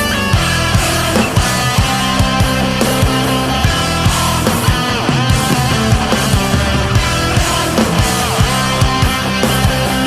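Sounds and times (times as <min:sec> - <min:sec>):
rock music with distorted guitars: 0:00.0 - 0:10.0.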